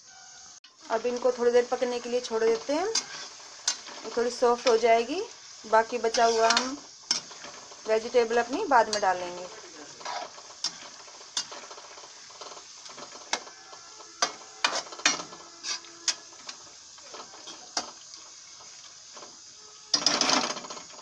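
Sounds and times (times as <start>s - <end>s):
food sizzling: 0.0s - 21.0s
metal spatula scraping a pan: 0.7s - 21.0s.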